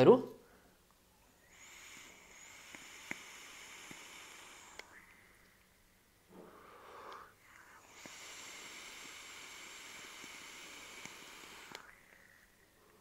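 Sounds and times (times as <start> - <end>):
breathy exhale: 0.4 - 5.6, 6.3 - 13.0
airy hiss through vape: 1.2 - 13.0.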